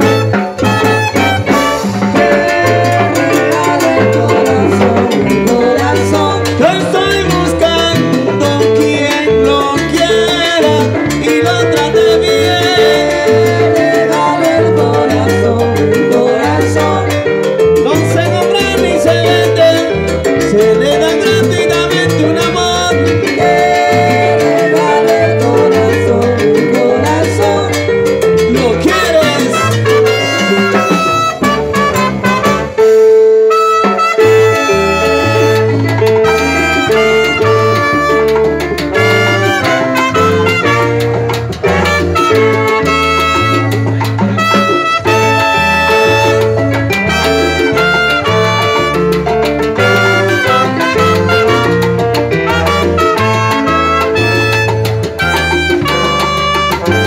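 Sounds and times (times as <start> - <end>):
electric bass line: 0.0 - 57.0
live salsa band playing: 0.0 - 57.0.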